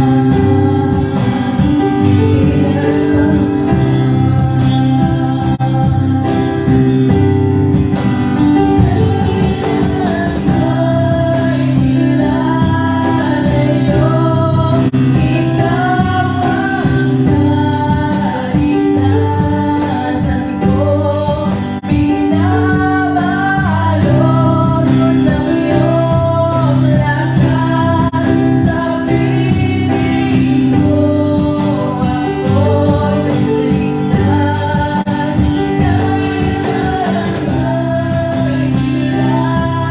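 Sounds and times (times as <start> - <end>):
worship song singing: 0.0 - 39.9.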